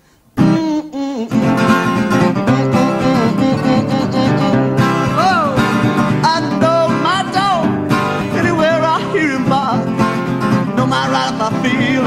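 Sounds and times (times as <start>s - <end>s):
acoustic blues guitar: 0.4s - 12.0s.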